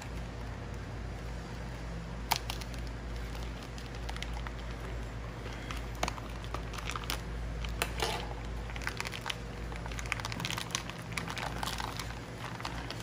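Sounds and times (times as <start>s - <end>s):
steady low hum: 0.0s - 13.0s
plastic packaging crinkling: 2.2s - 13.0s.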